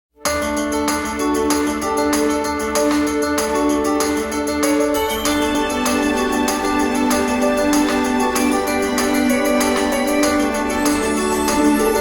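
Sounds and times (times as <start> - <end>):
electronic keyboard music with beat: 0.2 - 12.0.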